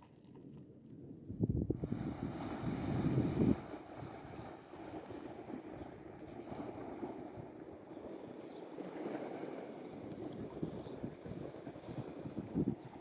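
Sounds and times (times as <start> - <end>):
wind buffeting microphone: 1.2 - 13.0
sea water washing ashore: 1.8 - 13.0.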